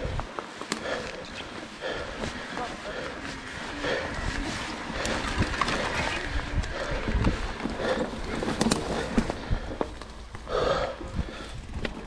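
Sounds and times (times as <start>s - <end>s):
wind noise: 0.0s - 0.3s, 1.8s - 12.0s
bike knocking and rattling: 0.0s - 12.0s
tyre noise: 0.0s - 12.0s.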